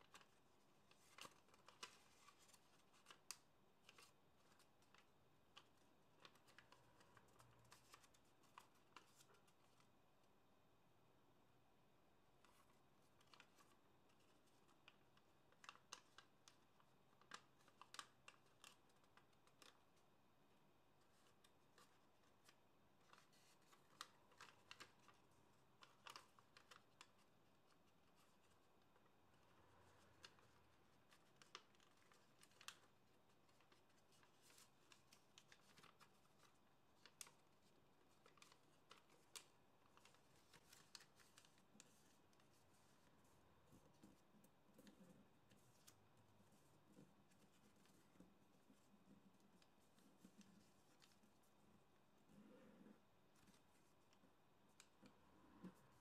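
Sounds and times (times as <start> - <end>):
paper crinkling while folded: 0.0 - 10.0, 12.3 - 56.0.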